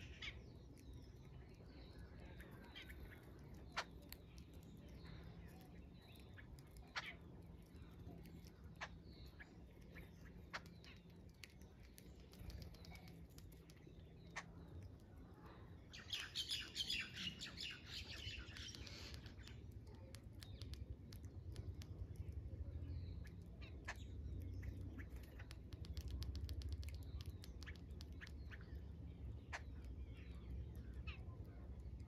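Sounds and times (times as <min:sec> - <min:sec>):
birds chattering harshly: 0:00.0 - 0:15.0, 0:15.7 - 0:31.8
low background rumble: 0:00.0 - 0:32.0
short bird calls and clicks: 0:00.0 - 0:32.0.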